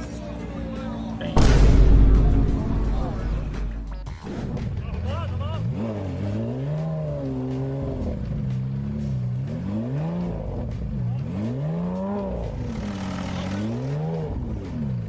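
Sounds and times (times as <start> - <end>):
car engine revving: 1.4 - 15.0.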